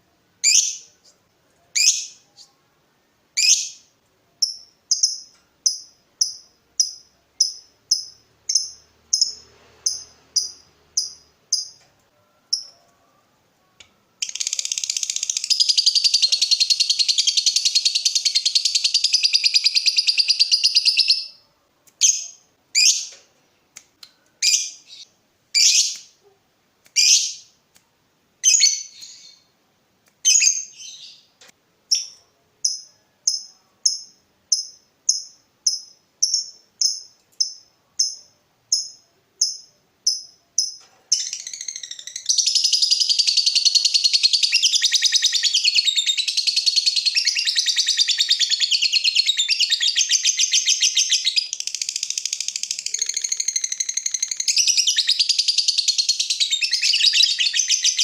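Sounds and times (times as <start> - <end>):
lovebird chirping: 0.4 - 2.8, 3.4 - 23.2, 24.0 - 27.6, 28.4 - 29.6, 30.2 - 58.0.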